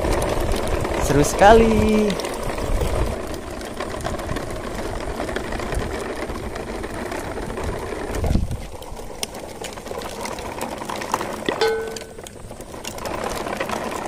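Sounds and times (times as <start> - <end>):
plastic toy wheels rolling on concrete: 0.0 - 14.0.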